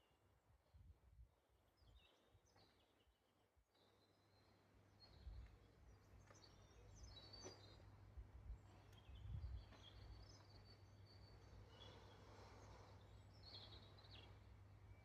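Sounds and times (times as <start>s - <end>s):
faint birds chirping: 1.6s - 15.0s.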